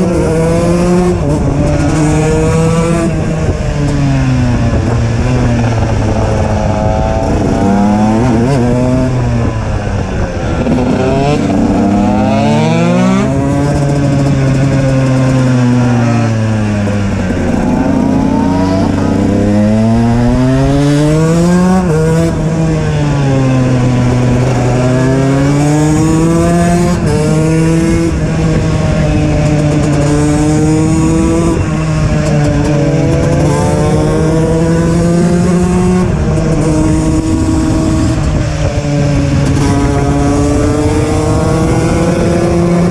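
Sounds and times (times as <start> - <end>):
two-stroke motorcycle engine revving: 0.0 - 42.9
wind rush: 0.0 - 42.9.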